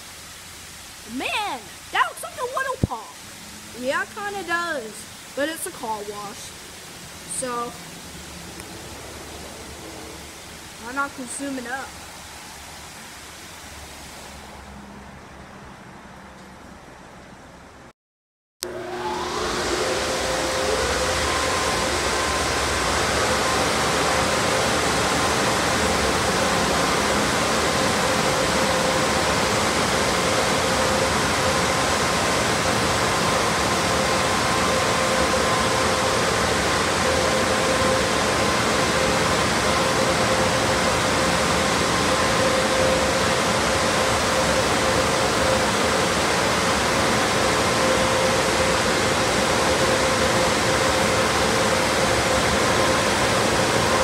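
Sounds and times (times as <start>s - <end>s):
car wash blower dryers: 0.0s - 17.9s, 18.6s - 54.0s.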